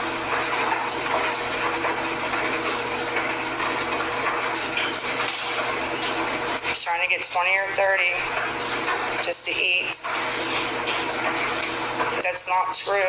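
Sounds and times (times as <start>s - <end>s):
clothes dryer humming: 0.0s - 13.0s.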